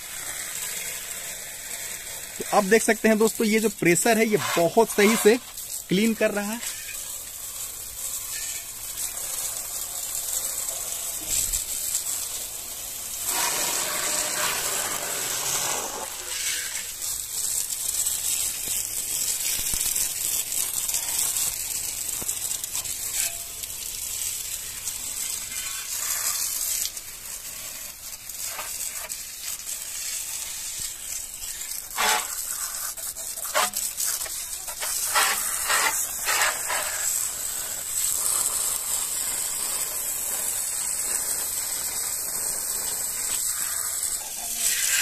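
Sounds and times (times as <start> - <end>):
pressure water jet hissing and spattering: 0.0 - 45.0.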